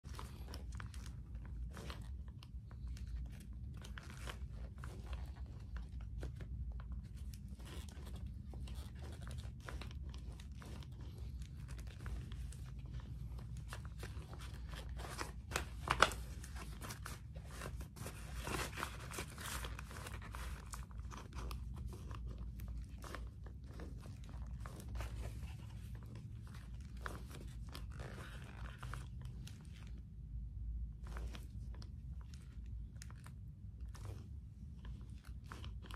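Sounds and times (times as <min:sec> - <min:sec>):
leather gloves creaking and clicking: 0:00.1 - 0:35.9.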